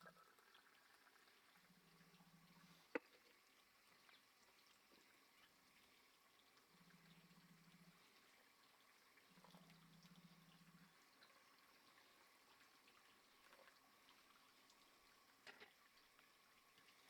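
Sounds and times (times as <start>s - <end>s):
faint ticks: 0.0s - 17.0s.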